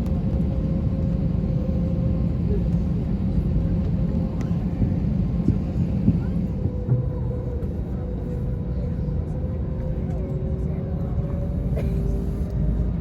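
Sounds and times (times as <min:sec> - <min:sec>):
airliner cabin rumble: 0:00.0 - 0:13.0
constant hum: 0:00.0 - 0:13.0.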